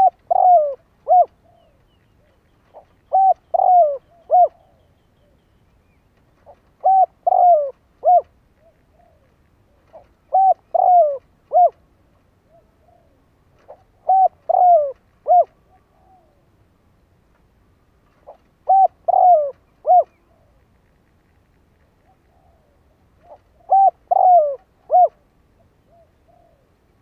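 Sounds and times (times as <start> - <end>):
dove cooing: 0.0 - 5.4, 6.4 - 16.5, 18.1 - 20.6, 22.0 - 26.8.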